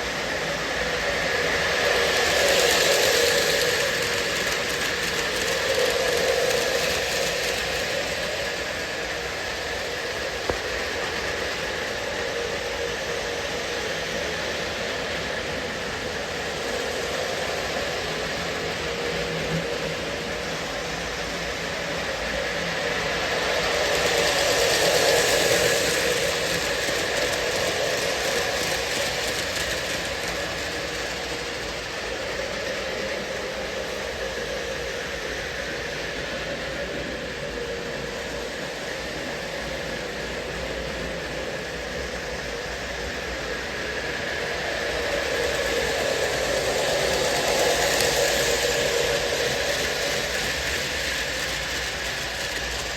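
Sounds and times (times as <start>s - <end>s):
model train rumbling hum: 0.0s - 52.9s.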